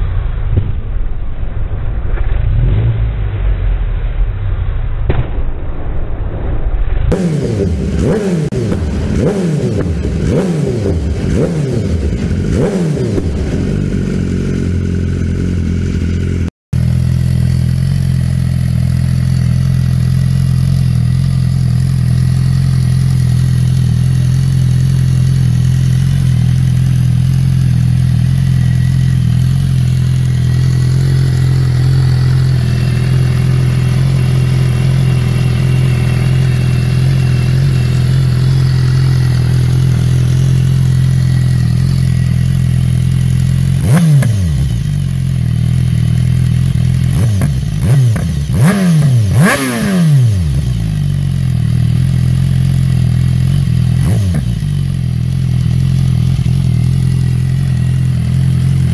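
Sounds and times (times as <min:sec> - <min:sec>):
motorcycle engine idling: 0:07.1 - 0:58.9
motorcycle engine throttle blips: 0:07.1 - 0:58.9.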